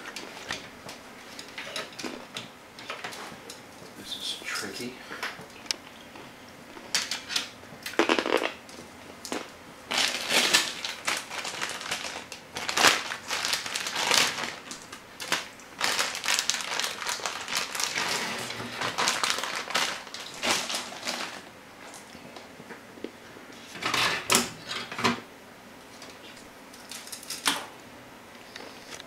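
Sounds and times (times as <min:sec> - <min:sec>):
wire crinkling and rustling: 0:00.0 - 0:04.0, 0:05.2 - 0:25.0, 0:25.8 - 0:29.0.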